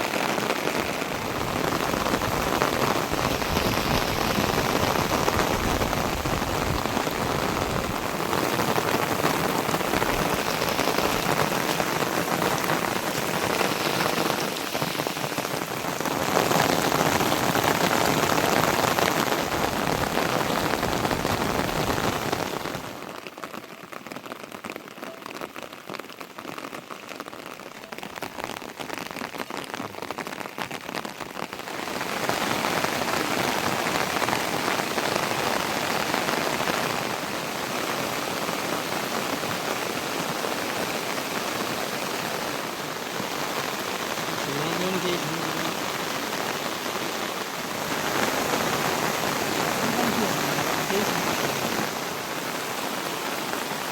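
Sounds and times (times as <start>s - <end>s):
rain falling steadily: 0.0s - 53.9s.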